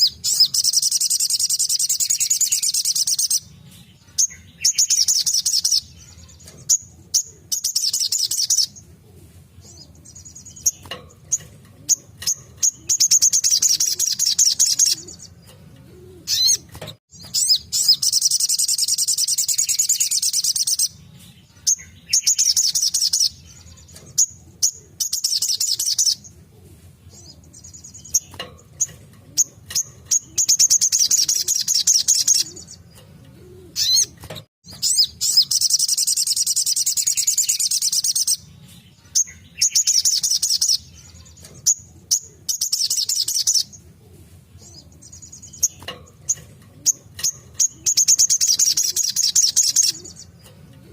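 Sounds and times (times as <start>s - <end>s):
sharp bird chips: 0.0s - 8.8s, 9.7s - 26.3s, 27.1s - 43.8s, 44.6s - 50.9s.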